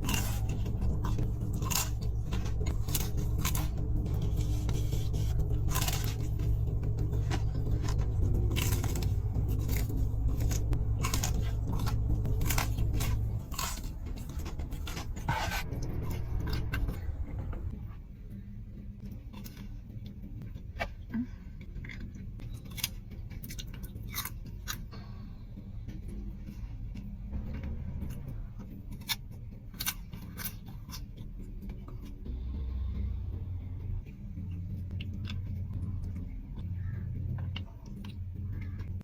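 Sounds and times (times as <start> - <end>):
crunchy chewing: 0.0 - 17.7, 19.0 - 25.3, 26.4 - 32.2, 34.4 - 39.0
low hum: 0.0 - 39.0.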